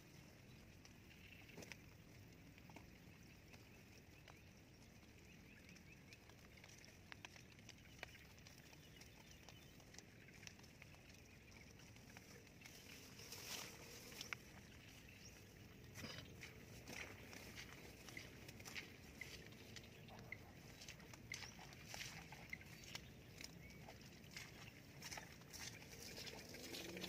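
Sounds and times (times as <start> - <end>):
soft ticks and rustles: 0.0 - 27.0.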